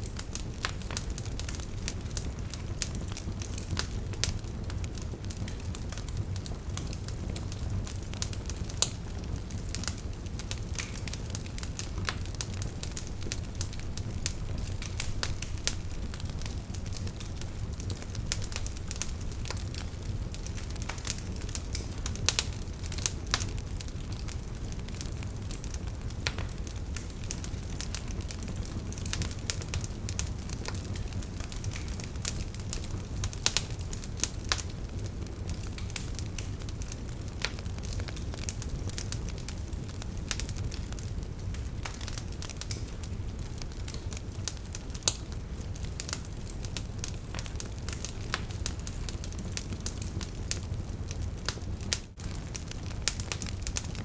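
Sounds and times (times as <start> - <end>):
campfire crackling: 0.0 - 54.0
sharp fire pops: 0.0 - 54.0.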